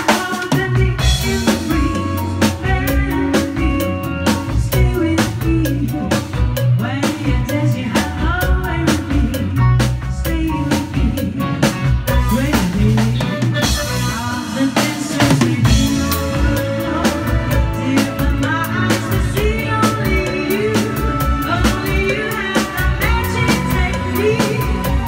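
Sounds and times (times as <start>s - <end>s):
drum kit beat: 0.0s - 25.0s
electric guitar: 0.0s - 25.0s
woman singing into microphone: 0.0s - 25.0s.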